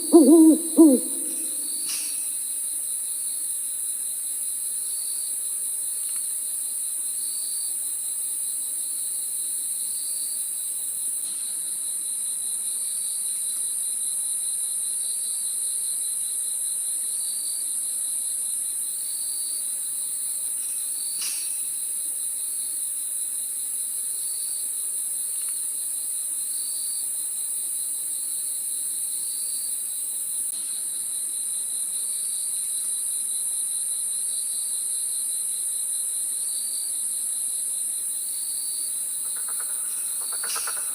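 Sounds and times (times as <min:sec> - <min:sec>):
fast-pulsing cricket chirp: 0:00.0 - 0:05.3, 0:08.8 - 0:40.9
high-pitched insect trill: 0:00.0 - 0:40.9.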